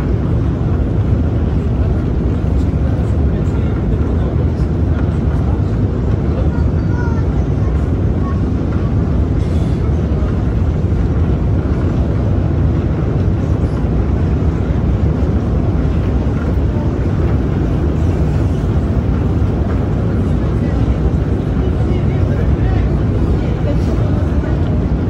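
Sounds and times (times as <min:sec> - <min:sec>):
escalator rumbling: 0:00.0 - 0:25.0.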